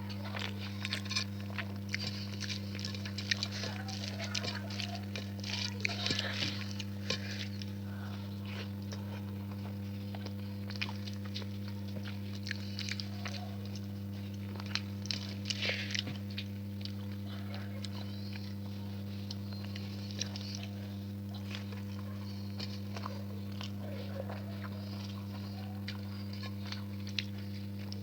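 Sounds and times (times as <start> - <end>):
steady low hum: 0.0 - 28.0
wet chewing and mouth clicks: 0.0 - 28.0.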